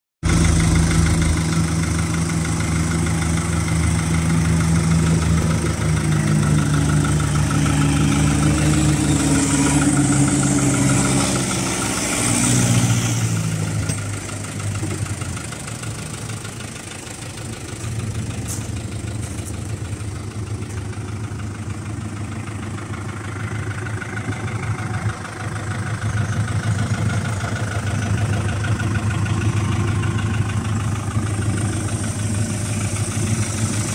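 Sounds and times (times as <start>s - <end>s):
tractor diesel engine idling: 0.2s - 33.9s.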